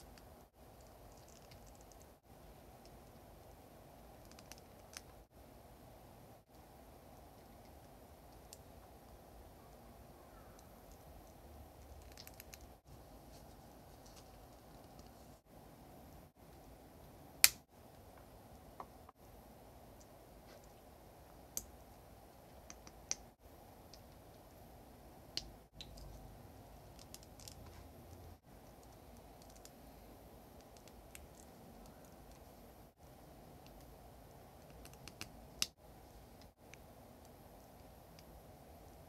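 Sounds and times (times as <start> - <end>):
steady low hiss: 0.0 - 39.0.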